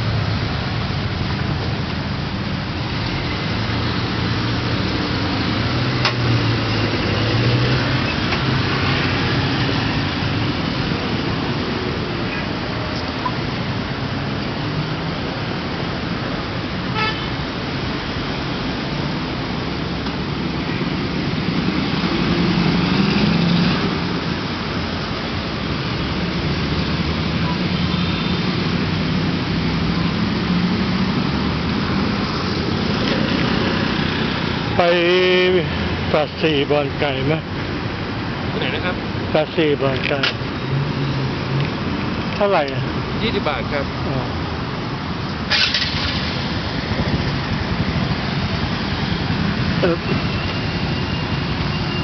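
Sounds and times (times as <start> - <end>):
car bus and motorbike engines: 0.0 - 52.0.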